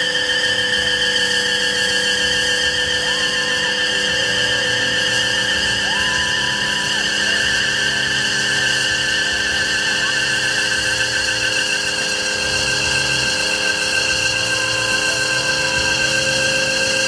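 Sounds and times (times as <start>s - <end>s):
engine at high revs: 0.0s - 17.0s.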